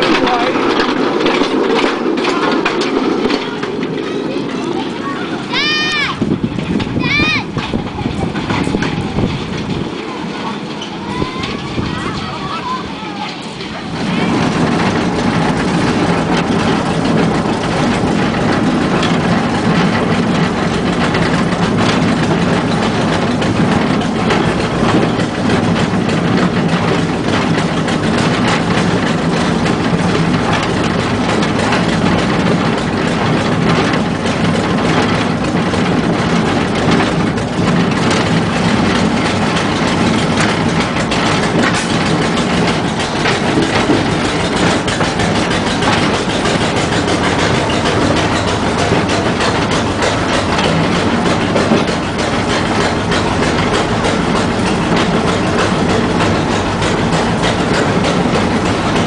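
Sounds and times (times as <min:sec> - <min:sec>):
train engine drone: 0:00.0 - 0:59.0
wheels clicking over rails: 0:00.0 - 0:59.0.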